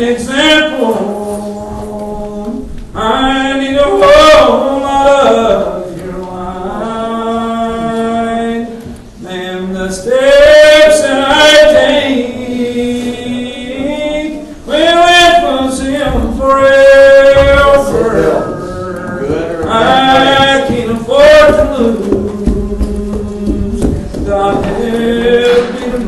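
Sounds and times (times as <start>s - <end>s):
congregation singing a hymn: 0.0s - 26.0s.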